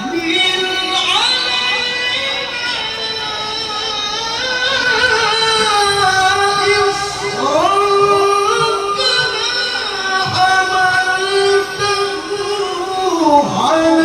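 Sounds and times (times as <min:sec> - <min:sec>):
person reciting melodically: 0:00.0 - 0:14.0.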